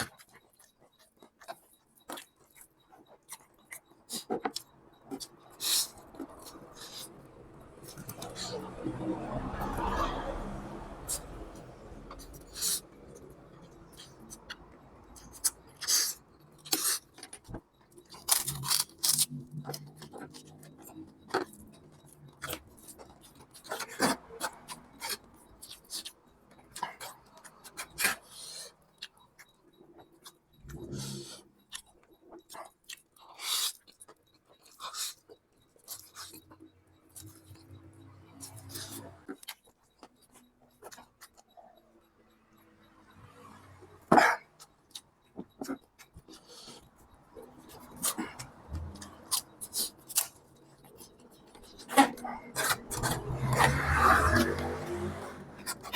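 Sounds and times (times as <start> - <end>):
person chewing: 0.0 - 8.6, 13.9 - 37.6, 38.4 - 41.8, 44.2 - 55.9.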